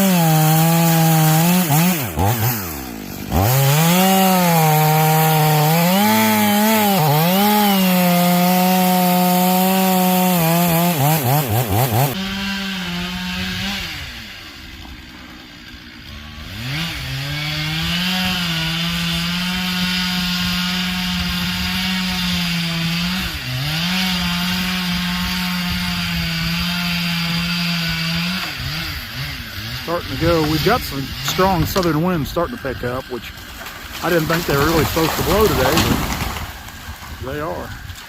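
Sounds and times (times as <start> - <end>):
chainsaw cutting a tree trunk: 0.0 - 38.0.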